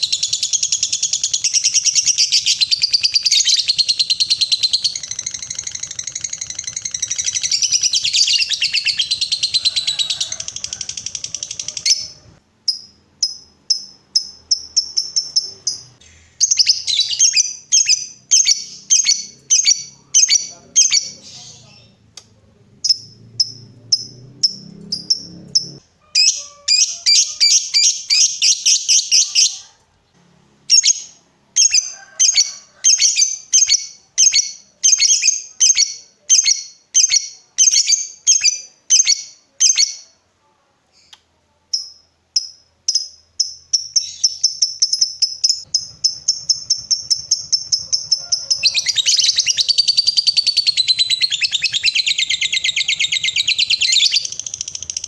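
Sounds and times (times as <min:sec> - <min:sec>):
lovebird chattering chirps and trill: 0:00.0 - 0:22.0, 0:22.8 - 0:29.8, 0:30.7 - 0:40.2, 0:41.7 - 0:55.0.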